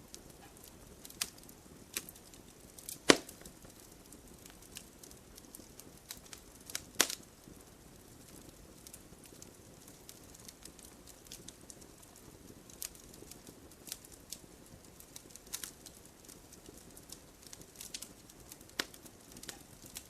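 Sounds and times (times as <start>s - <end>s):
faint hiss: 0.0s - 20.0s
wood fire crackling: 0.0s - 20.0s.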